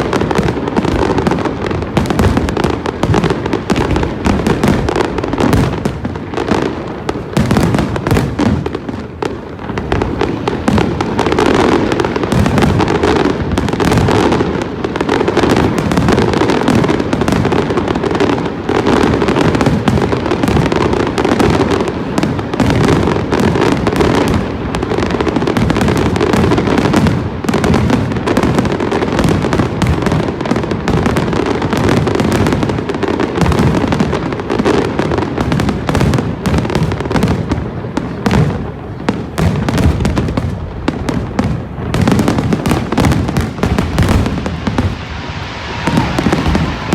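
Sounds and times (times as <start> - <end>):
fireworks booming and crackling: 0.0 - 46.9.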